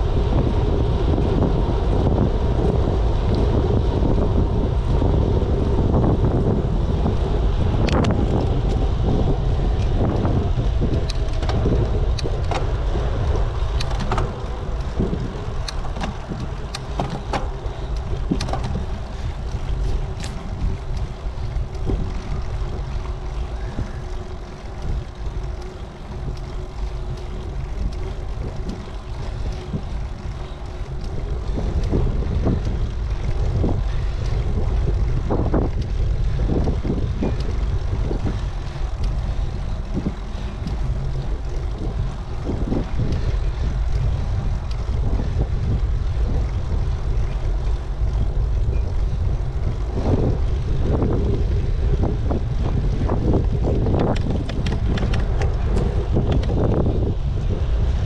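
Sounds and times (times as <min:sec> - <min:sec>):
wind rumbling on microphone: 0:00.0 - 0:58.0.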